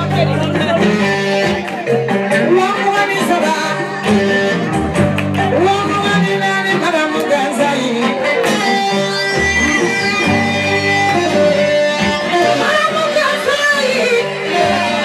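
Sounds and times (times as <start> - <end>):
bass line: 0.0 - 15.0
plucked guitar melody: 0.0 - 15.0.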